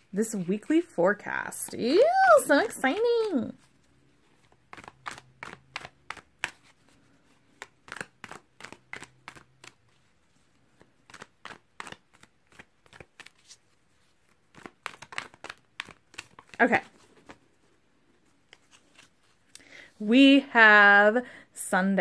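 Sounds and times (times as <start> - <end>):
cards being shuffled: 1.6 - 19.5.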